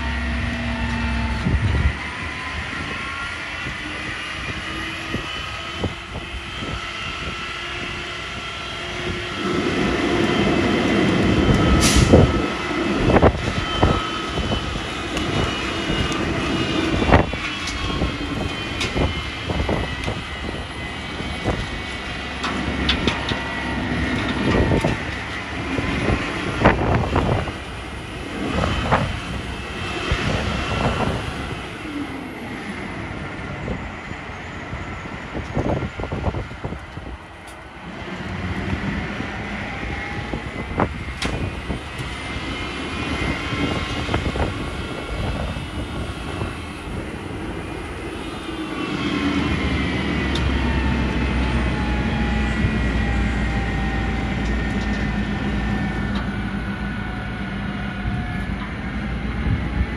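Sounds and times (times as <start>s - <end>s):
garbage truck engine and hydraulic whine: 0.0s - 59.9s.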